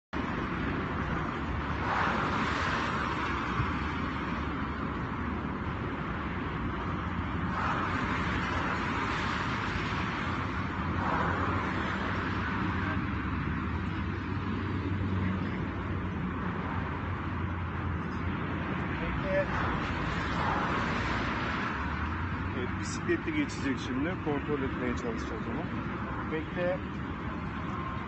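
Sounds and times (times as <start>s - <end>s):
road traffic rumble: 0.1s - 28.0s
vehicles passing: 0.2s - 28.0s.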